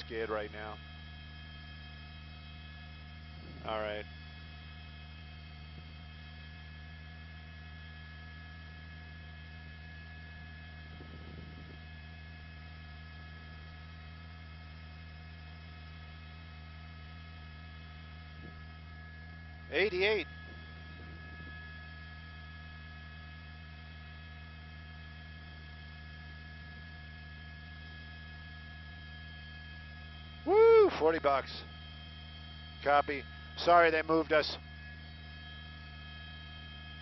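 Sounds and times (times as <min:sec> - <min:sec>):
electrical hum with fixed tones: 0:00.0 - 0:37.0.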